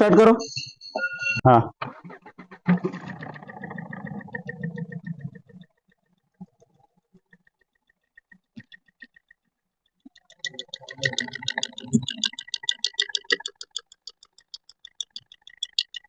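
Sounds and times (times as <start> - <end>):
fast even engine ticking: 1.9 - 16.0.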